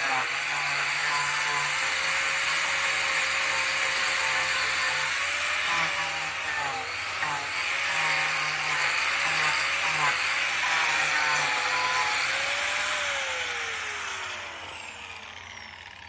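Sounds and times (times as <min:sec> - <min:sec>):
power carving tool grinding wood: 0:00.0 - 0:16.0.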